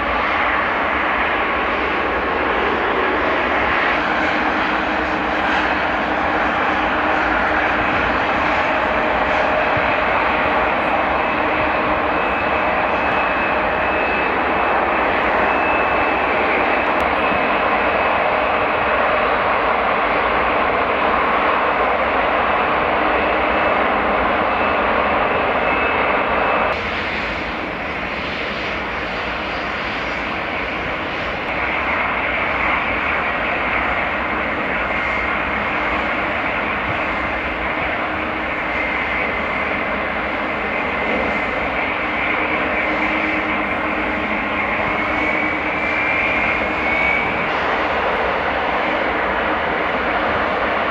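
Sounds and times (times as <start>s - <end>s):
airliner engines running: 0.0s - 50.9s
high engine whine: 0.0s - 50.9s.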